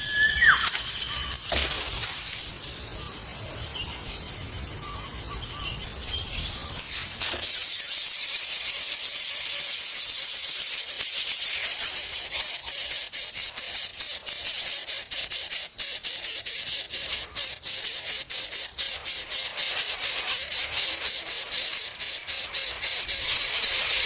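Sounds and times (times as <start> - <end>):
high-pitched insects buzzing: 4.1 - 24.0.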